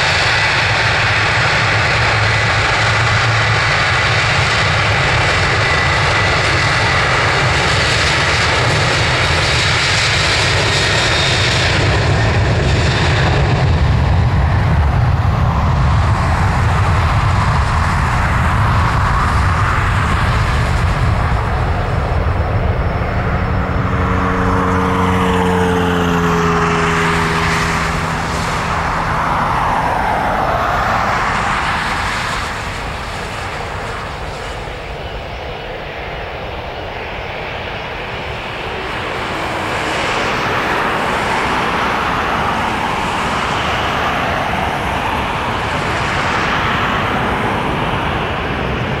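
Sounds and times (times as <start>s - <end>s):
jet engine roar: 0.0s - 49.0s.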